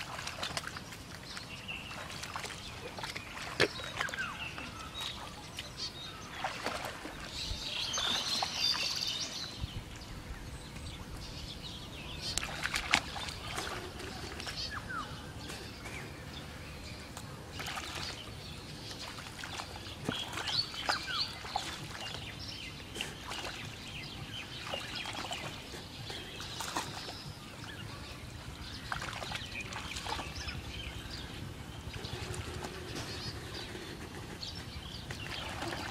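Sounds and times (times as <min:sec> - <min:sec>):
legs wading through shallow water: 0:00.0 - 0:35.9
birds chirping and calling: 0:00.2 - 0:35.9.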